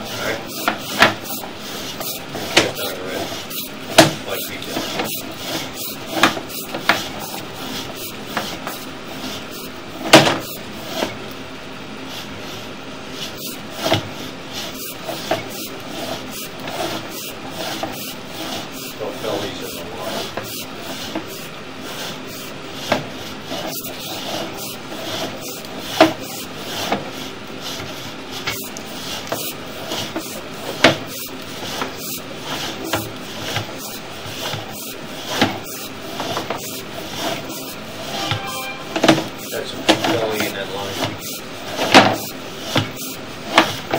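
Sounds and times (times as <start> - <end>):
cable rubbing and scraping in pipe: 0.0 - 11.3, 12.1 - 43.9.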